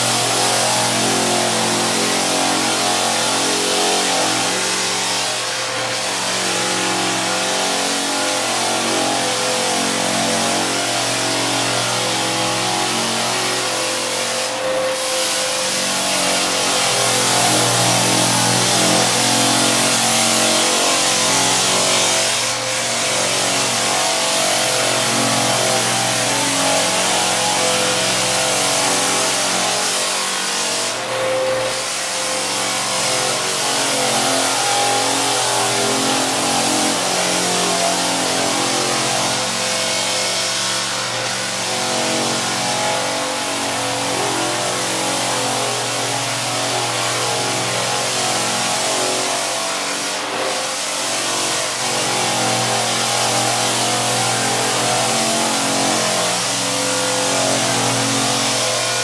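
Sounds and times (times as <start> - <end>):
floor sanding machine: 0.0 - 59.0.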